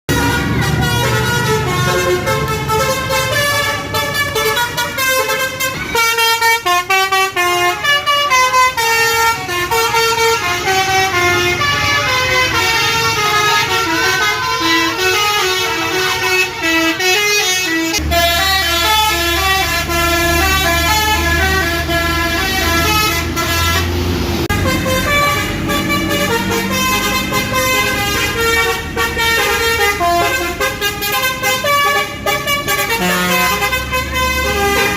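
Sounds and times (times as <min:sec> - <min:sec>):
multi-tone bus horns playing melodies: 0:00.1 - 0:34.9.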